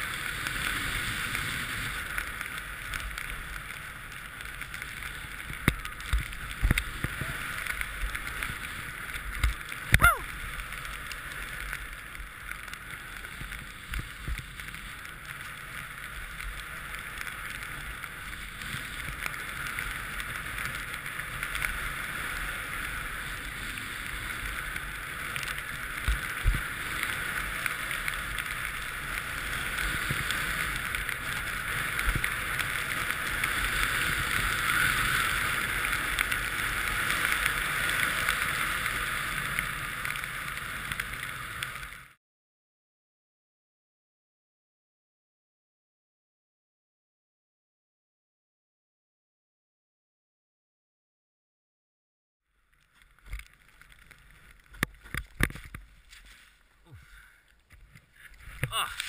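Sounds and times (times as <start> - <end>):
snowboard scraping over snow: 0.0 - 42.2, 53.0 - 59.0.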